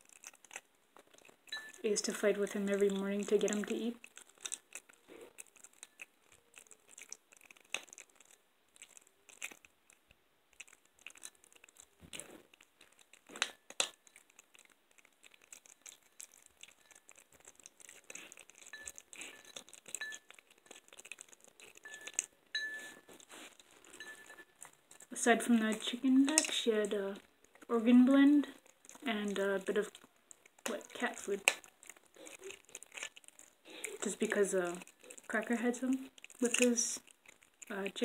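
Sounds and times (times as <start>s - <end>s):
kitten crunching bone: 0.0s - 38.0s.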